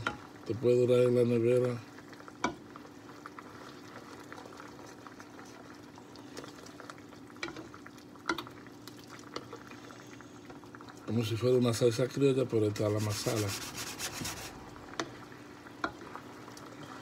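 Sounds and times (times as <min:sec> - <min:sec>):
sauce simmering and bubbling: 0:00.0 - 0:17.0.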